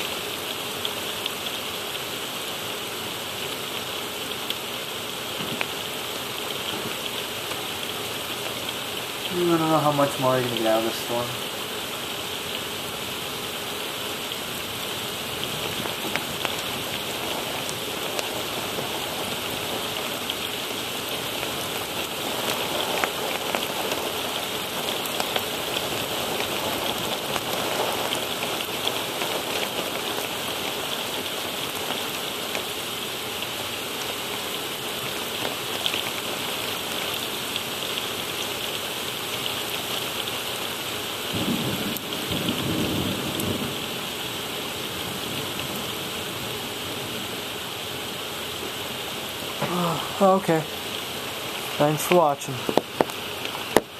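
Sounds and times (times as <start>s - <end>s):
heavy rain pouring: 0.0s - 53.9s
sharp ticks of raindrops: 0.0s - 53.9s.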